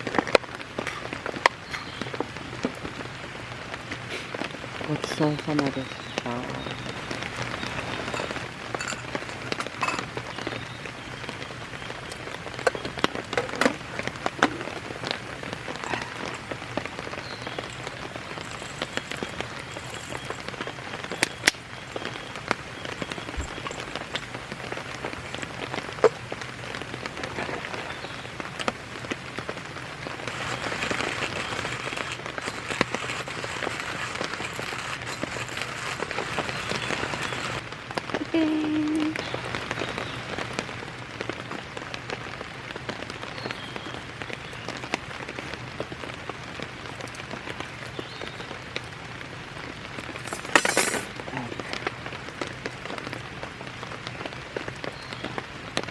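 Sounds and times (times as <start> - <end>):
rain pattering: 0.0 - 55.9.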